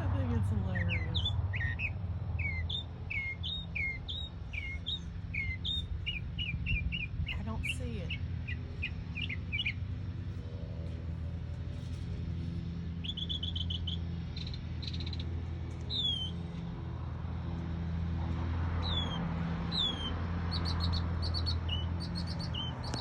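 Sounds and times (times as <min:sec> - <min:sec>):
songbird singing: 0:00.0 - 0:16.8, 0:17.4 - 0:23.0
steady low hum: 0:00.0 - 0:23.0.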